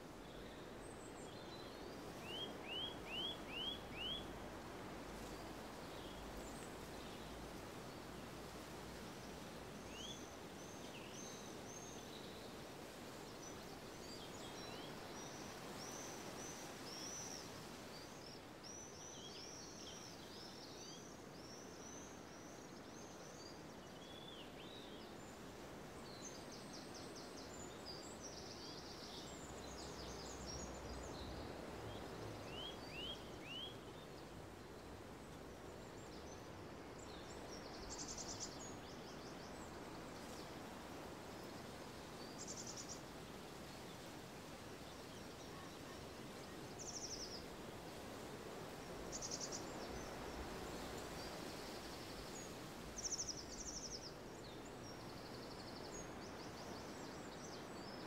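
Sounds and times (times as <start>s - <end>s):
low background hiss: 0.0s - 58.0s.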